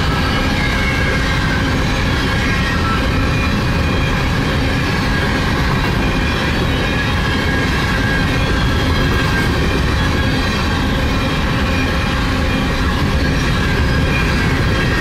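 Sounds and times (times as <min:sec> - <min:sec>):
freight train wheels rumbling on rail: 0:00.0 - 0:15.0
high wheel squeal: 0:00.0 - 0:15.0.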